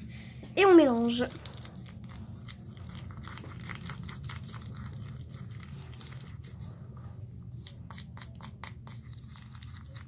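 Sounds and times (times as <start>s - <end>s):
utensil stirring wet slime: 0.6s - 10.0s
clicks and scrapes in bowl: 1.0s - 10.0s.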